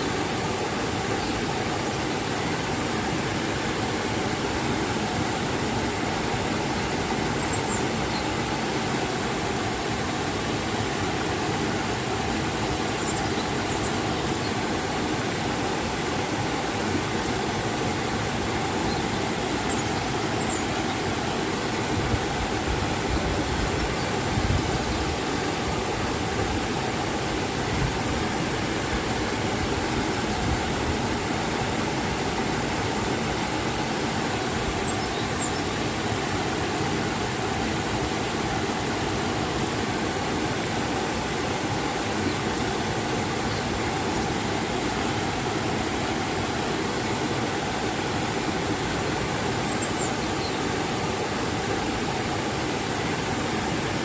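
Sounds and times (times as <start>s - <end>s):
river and waterfall rushing: 0.0s - 54.0s.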